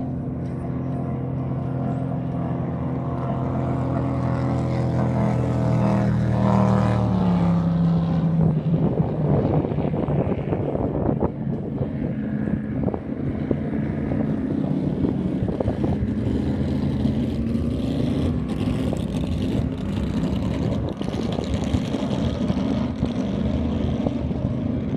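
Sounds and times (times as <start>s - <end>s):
speedboat engine drone: 0.0s - 24.9s.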